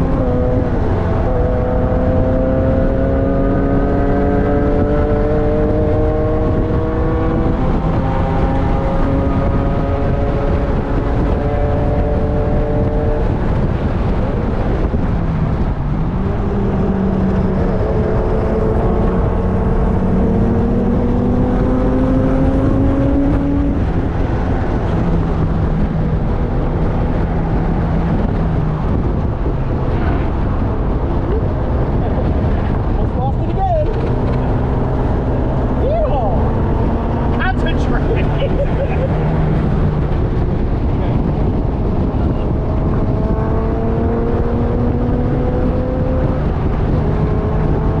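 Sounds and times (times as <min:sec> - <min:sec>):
car engine accelerating: 0:00.0 - 0:48.0
road and wind noise: 0:00.0 - 0:48.0.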